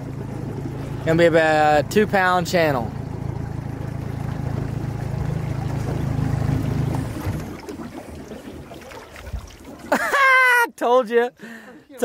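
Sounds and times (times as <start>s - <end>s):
water against boat hull: 0.0s - 10.6s
outboard motor humming: 0.0s - 12.0s
wind: 0.0s - 12.0s.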